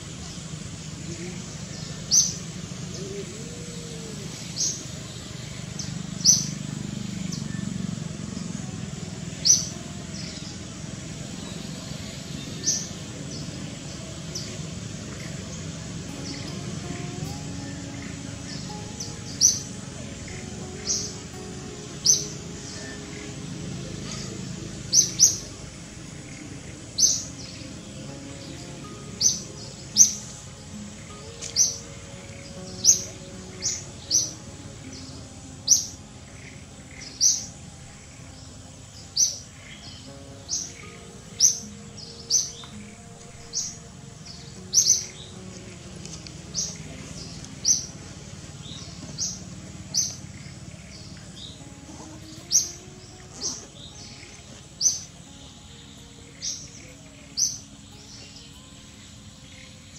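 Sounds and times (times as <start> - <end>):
bird chirping: 0.0 - 59.9
soft background music: 0.0 - 59.9.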